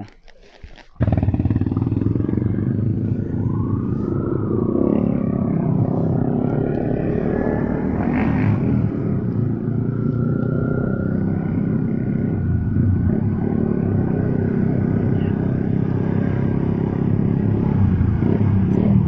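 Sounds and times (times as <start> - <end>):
motorbike engine running: 1.0 - 19.0.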